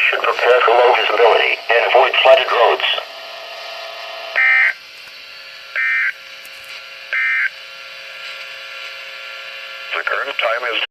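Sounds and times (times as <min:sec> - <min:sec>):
faint steady hum: 0:00.0 - 0:10.9.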